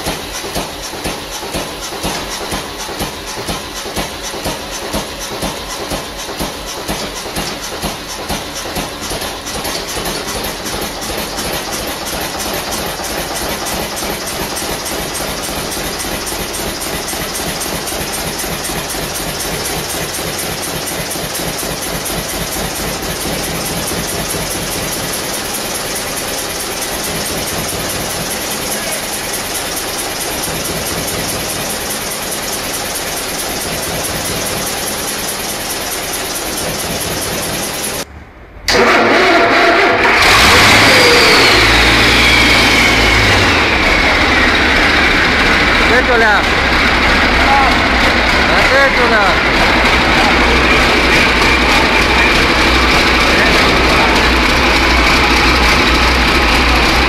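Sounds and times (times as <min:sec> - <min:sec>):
stationary engine running: 0:00.0 - 0:38.1, 0:38.7 - 0:57.0.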